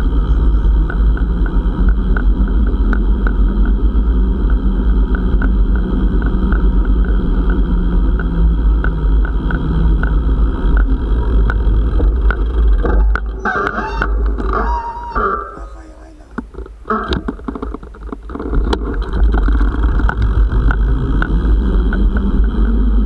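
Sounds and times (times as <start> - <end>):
bicycle rolling on concrete: 0.0 - 23.0.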